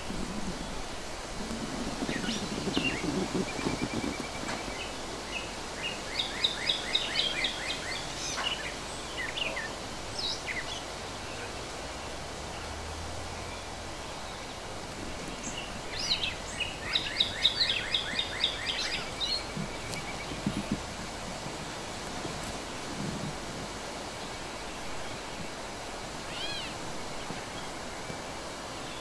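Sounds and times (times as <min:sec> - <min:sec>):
songbird singing: 0:00.0 - 0:29.0
steady outdoor hiss: 0:00.0 - 0:29.0.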